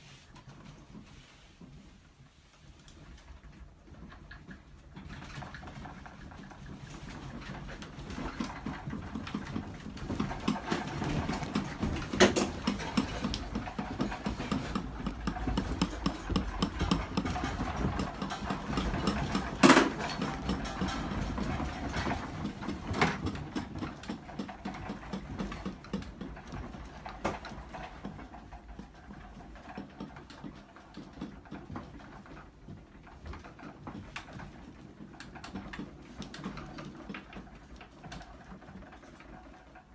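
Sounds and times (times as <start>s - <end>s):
room rattling and creaking: 0.0s - 39.9s.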